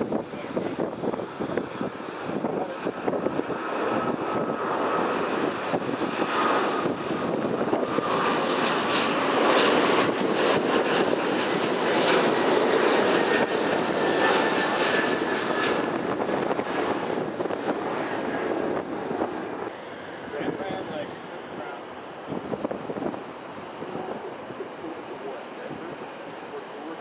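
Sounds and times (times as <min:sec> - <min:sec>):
faint jet whine: 0:00.0 - 0:27.0
jet engines roaring: 0:00.0 - 0:27.0.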